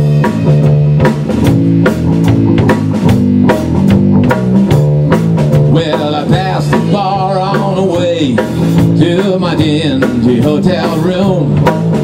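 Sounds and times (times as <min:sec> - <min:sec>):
drum kit beat: 0:00.0 - 0:12.0
electric guitar chords: 0:00.0 - 0:12.0
walking bass guitar line: 0:00.0 - 0:12.0.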